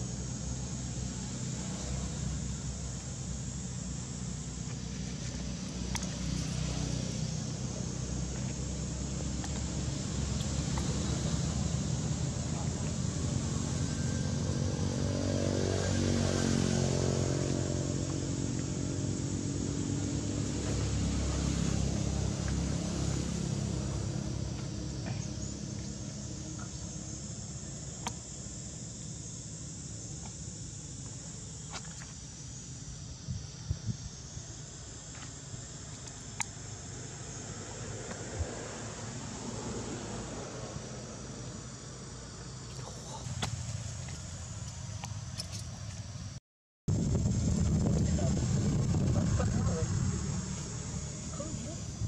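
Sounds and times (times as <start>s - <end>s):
motor engine humming: 0.0s - 46.3s, 46.9s - 52.0s
outdoor background noise: 0.0s - 52.0s.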